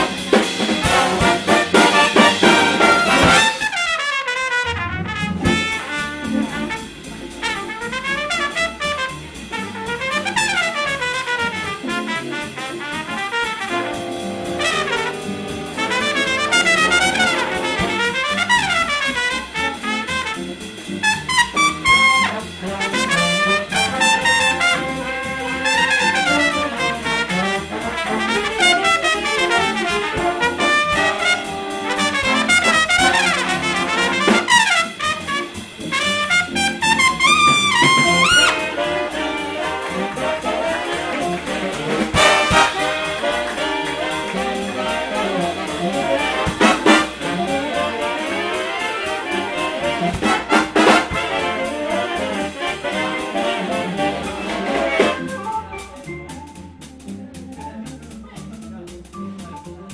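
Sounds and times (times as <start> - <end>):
trumpet solo: 0.0 - 55.8
big band jazz: 0.0 - 59.9.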